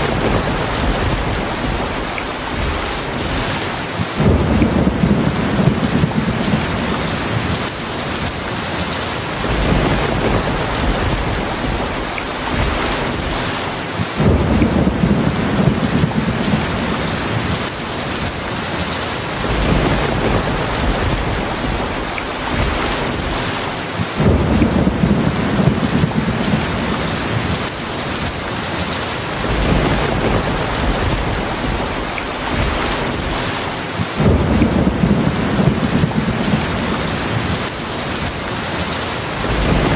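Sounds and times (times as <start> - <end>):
low rumbling thunder: 0.0 - 7.6, 9.4 - 18.3, 19.4 - 28.3, 29.3 - 38.3, 39.3 - 39.9
heavy rain falling: 0.0 - 39.9.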